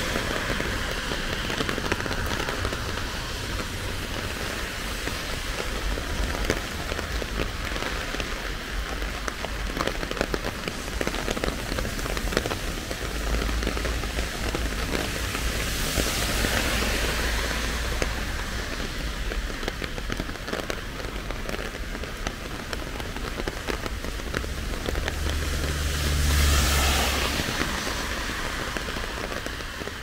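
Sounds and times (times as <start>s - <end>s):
heavy rain falling: 0.0s - 30.0s
sharp raindrop hits: 0.0s - 30.0s.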